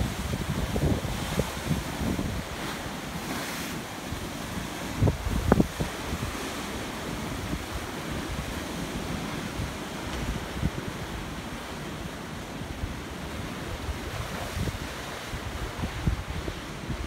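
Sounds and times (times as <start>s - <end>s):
wind buffeting microphone: 0.0s - 3.4s, 4.1s - 17.0s.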